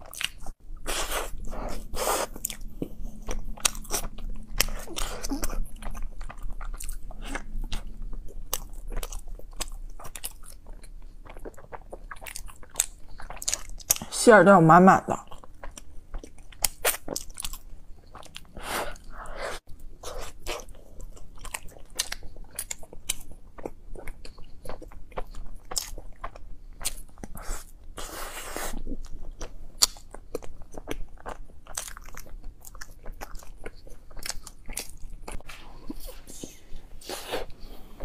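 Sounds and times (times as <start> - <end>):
woman chewing bread: 0.0 - 14.1, 15.2 - 38.0.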